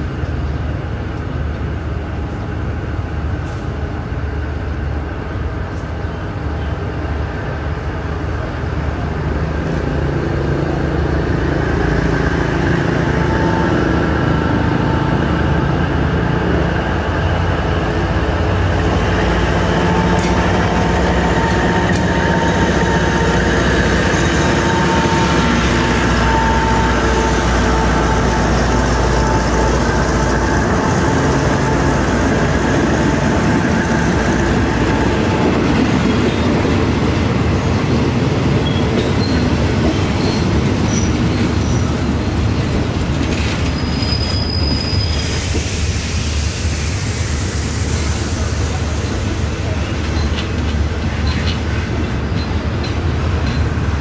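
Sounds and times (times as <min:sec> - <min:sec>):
train wheels rumbling and rattling: 0:00.0 - 0:54.0.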